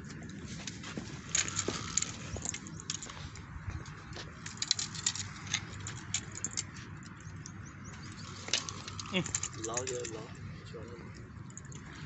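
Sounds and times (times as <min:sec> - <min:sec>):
light clicks and ticks: 0:00.1 - 0:12.0.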